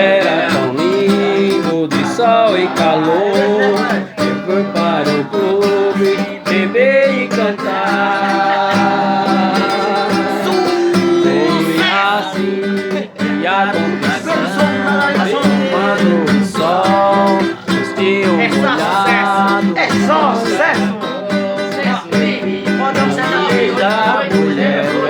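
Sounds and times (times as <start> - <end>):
man singing: 0.0 - 25.0
strummed acoustic guitar: 0.0 - 25.0.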